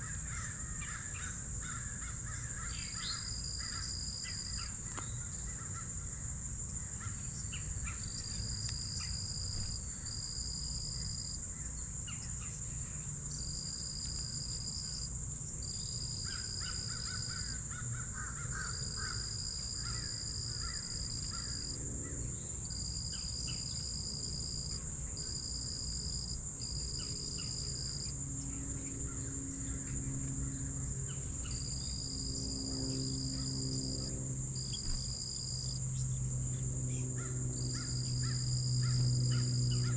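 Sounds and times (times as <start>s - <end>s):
high insect drone: 0.0s - 39.9s
insect trill: 0.0s - 39.9s.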